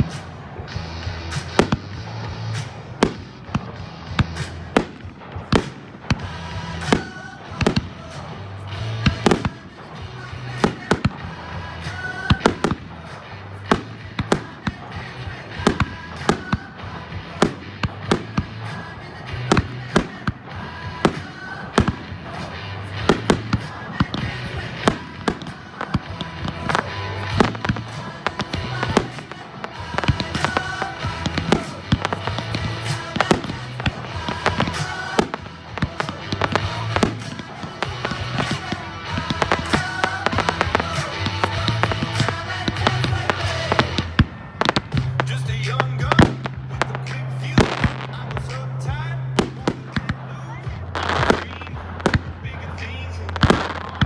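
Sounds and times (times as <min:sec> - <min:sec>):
fireworks bursting and cracking: 0:00.0 - 0:54.0
music with bass beat: 0:00.0 - 0:54.0.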